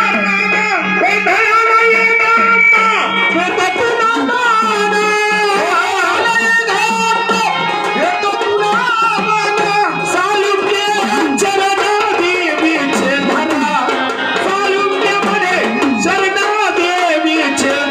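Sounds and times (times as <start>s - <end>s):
hand drum rhythm: 0.0s - 17.9s
melody instruments: 0.0s - 17.9s
person singing: 0.0s - 17.9s.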